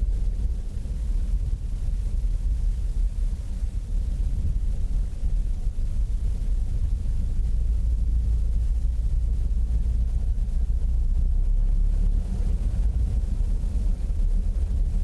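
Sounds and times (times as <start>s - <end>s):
light airplane engine rumbling: 0.0s - 15.0s.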